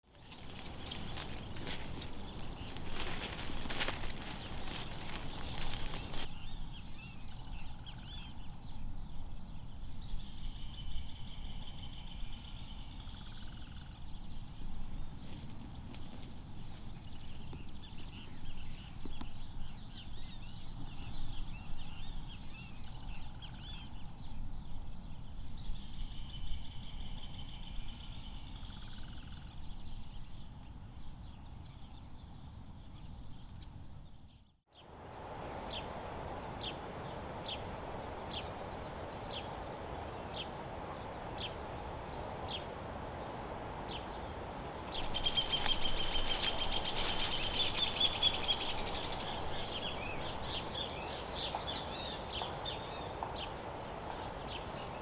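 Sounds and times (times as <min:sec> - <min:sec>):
low wind rumble: 0:00.1 - 0:34.0, 0:34.8 - 0:55.0
high-pitched insect trill: 0:00.1 - 0:34.2, 0:34.8 - 0:55.0
birds chirping: 0:00.1 - 0:55.0.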